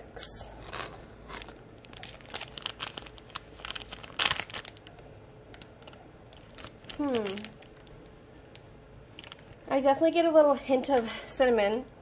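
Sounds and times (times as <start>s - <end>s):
plastic bag crinkling: 0.4s - 10.1s.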